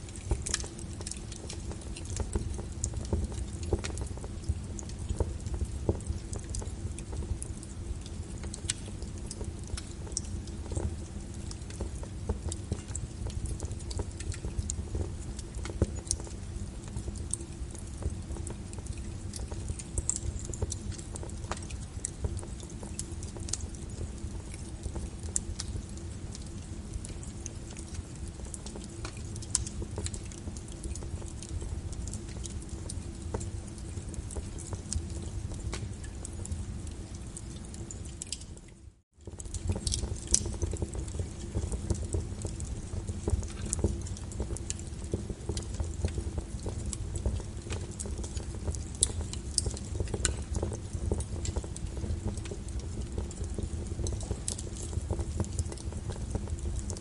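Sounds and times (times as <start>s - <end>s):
burning wood crackling and popping: 0.0s - 57.0s
low rumble of flames: 0.0s - 57.0s.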